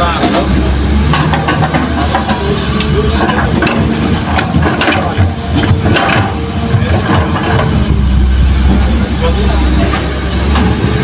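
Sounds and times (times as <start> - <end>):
excavator diesel engine hum: 0.0 - 11.0.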